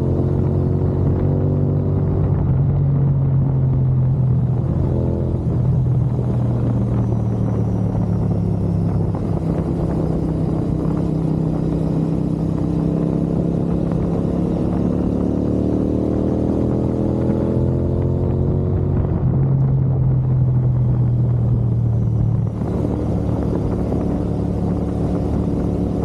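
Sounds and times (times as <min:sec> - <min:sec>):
motorcycle engine exhaust note: 0:00.0 - 0:26.0.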